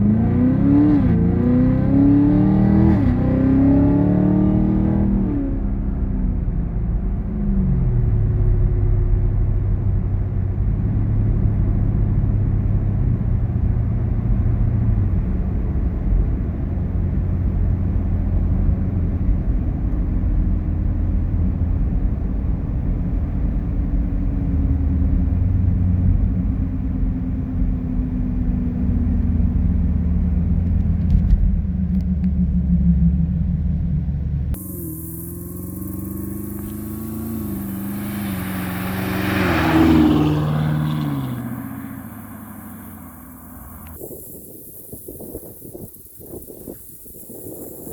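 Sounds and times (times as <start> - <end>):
car engine low rumble: 0.0 - 47.9.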